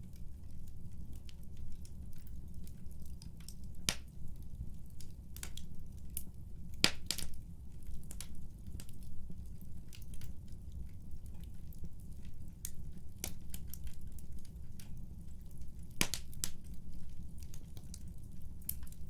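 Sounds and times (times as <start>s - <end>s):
fire crackling and popping: 0.0s - 19.0s
wood fire rumbling: 0.0s - 19.0s.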